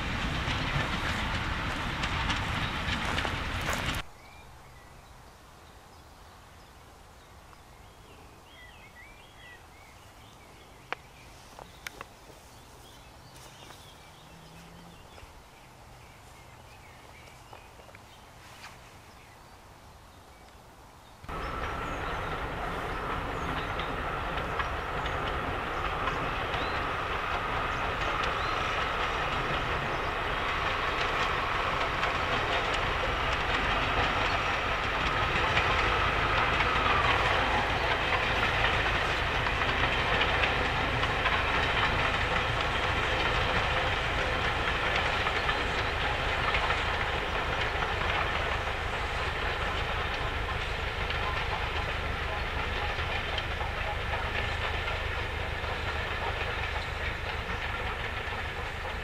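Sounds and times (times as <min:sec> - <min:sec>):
train wheels rumbling on rails: 0:00.0 - 0:04.1, 0:07.8 - 0:19.4, 0:21.2 - 0:59.0.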